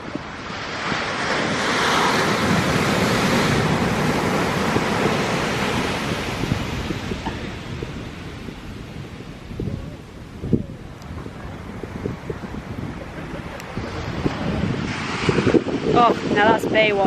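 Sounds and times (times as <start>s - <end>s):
ocean wave breaking: 0.0s - 17.0s
wind buffeting microphone: 0.0s - 17.0s.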